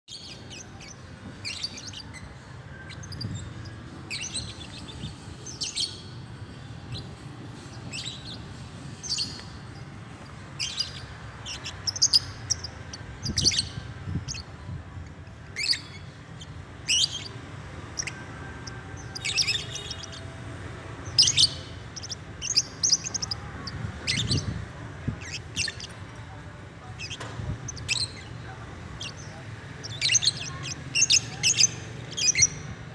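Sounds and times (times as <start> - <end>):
bird chirping: 0.1 - 14.6, 15.2 - 20.4, 21.0 - 32.9.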